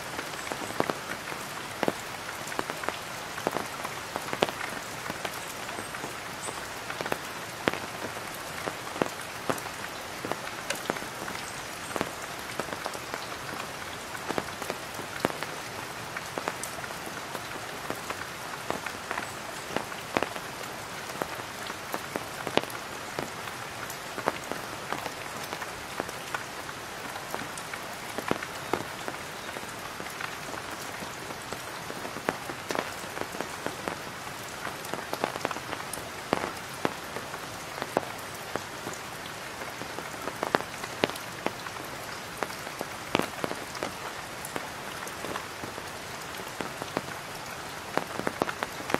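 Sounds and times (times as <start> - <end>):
rain on a tarpaulin: 0.0 - 48.9.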